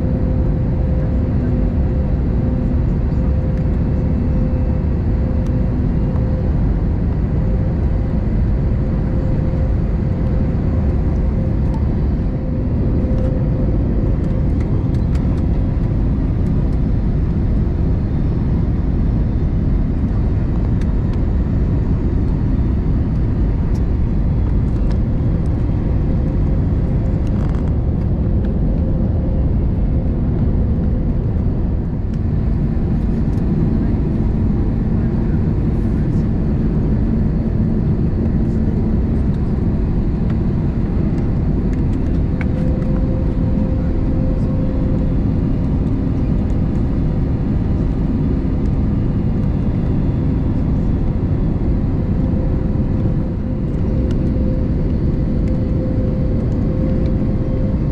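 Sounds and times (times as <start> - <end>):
airliner cabin engine rumble: 0.0 - 57.9.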